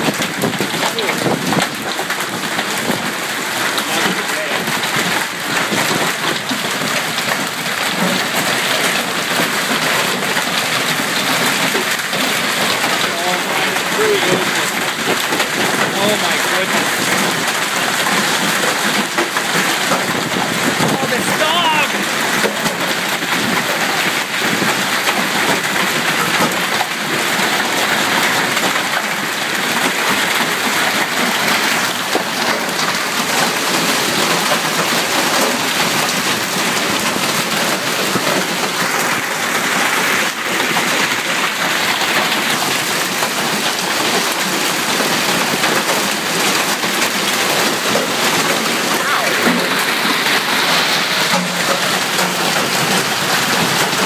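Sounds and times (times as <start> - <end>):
heavy rain and hail: 0.0 - 54.0.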